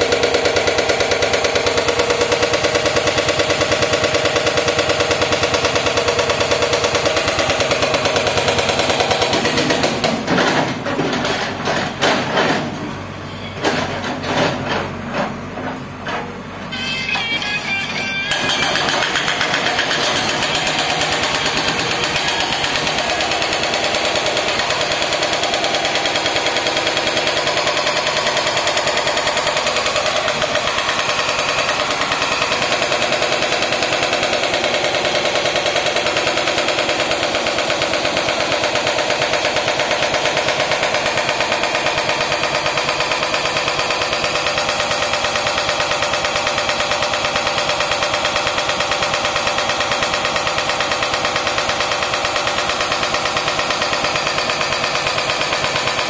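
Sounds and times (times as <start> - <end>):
hydraulic rock breaker hammering: 0.0 - 17.3, 18.2 - 56.0.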